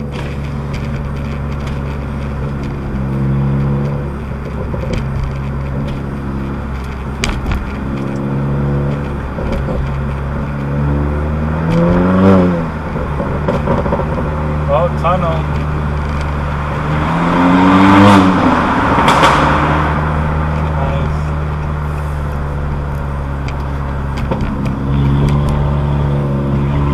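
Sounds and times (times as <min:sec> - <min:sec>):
car exhaust revving: 0:00.0 - 0:26.9.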